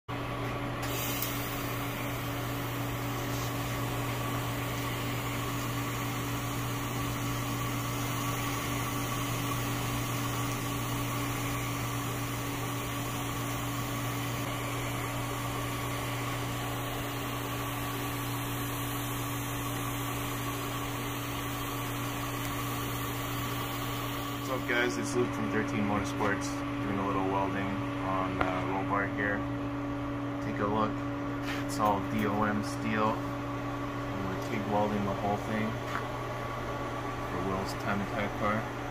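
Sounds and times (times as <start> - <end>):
welding arc humming and hissing: 0.6 - 38.9.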